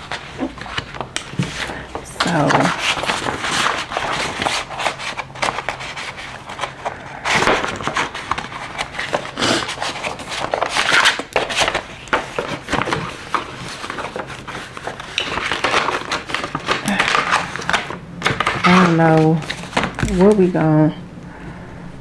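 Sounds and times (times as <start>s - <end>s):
paper rustling and crinkling: 0.0s - 20.6s.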